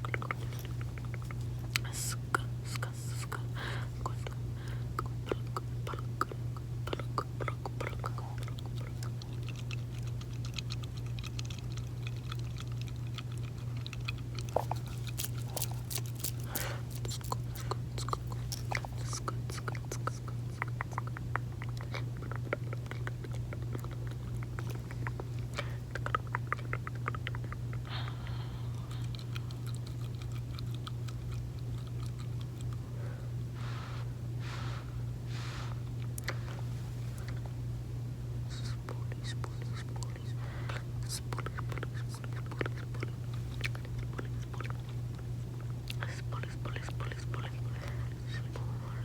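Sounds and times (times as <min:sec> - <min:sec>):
gum chewing mouth sounds: 0:00.0 - 0:49.0
steady low hum: 0:00.0 - 0:49.0.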